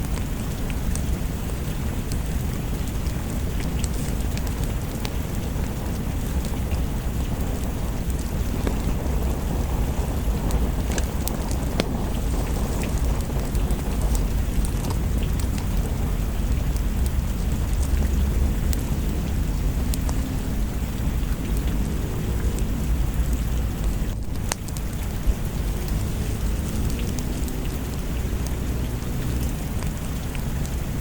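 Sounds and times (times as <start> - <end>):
low rumble: 0.0 - 31.0
steady rain: 0.0 - 31.0
wood fire crackling: 0.0 - 31.0.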